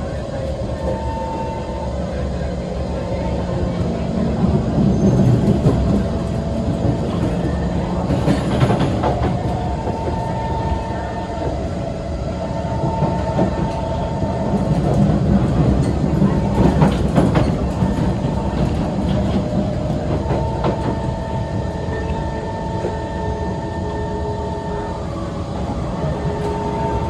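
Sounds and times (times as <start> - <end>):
faint train whine: 0.0 - 27.0
train wheels rumbling on rail: 0.0 - 27.0.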